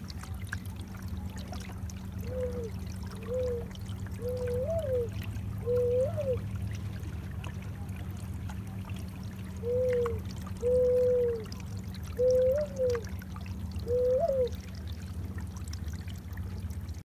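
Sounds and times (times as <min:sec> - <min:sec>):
steady low rumble: 0:00.0 - 0:17.0
water lapping along canoe: 0:00.0 - 0:17.0.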